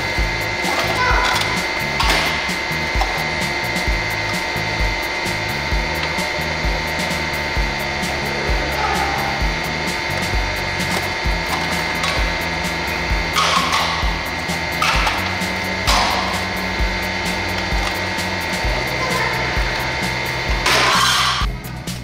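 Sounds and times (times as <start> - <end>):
background music with a beat: 0.0 - 22.0
metal plates clinking: 0.6 - 7.4, 9.9 - 21.6.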